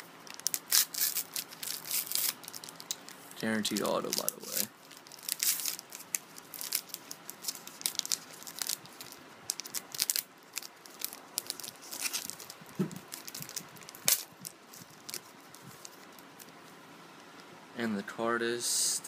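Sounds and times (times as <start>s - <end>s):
card wrapper crinkling: 0.2s - 16.6s
cards being handled: 0.3s - 16.6s.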